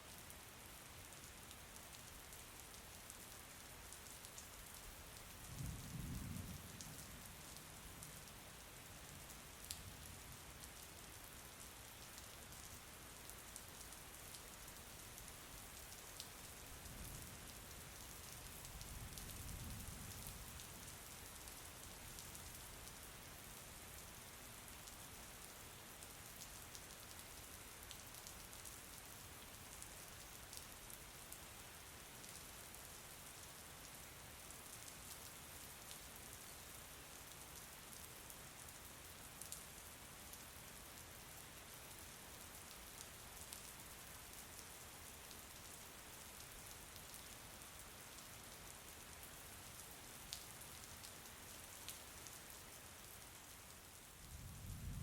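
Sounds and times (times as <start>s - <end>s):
soft steady rain: 0.0s - 55.0s.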